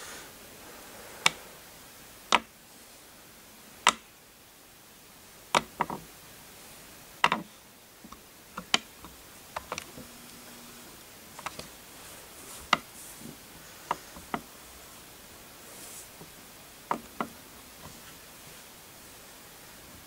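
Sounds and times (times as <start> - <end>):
faint room hiss: 0.0 - 20.0.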